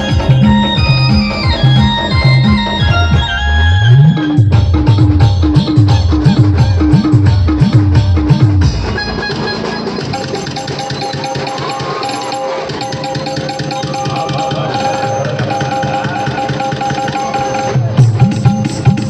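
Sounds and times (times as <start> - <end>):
fast even percussion: 0.0 - 3.4, 4.0 - 19.0
live band music: 0.0 - 18.6
deep drum beats: 0.0 - 19.0.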